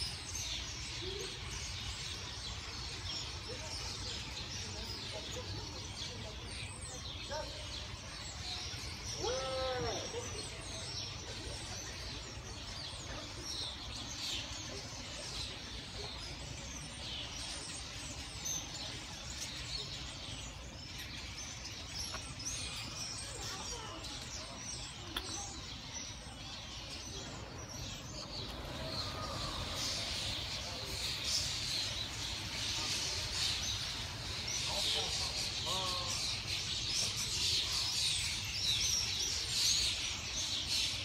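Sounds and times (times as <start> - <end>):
flock of starlings chattering: 0.0 - 41.0.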